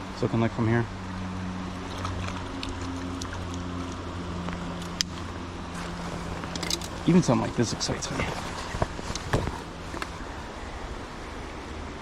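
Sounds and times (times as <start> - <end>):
creek water running: 0.0 - 12.0
low hum: 0.0 - 12.0.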